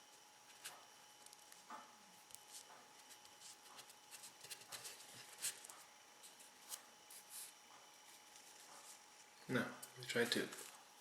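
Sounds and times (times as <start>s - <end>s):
fingers handling tobacco leaf: 0.1s - 10.8s.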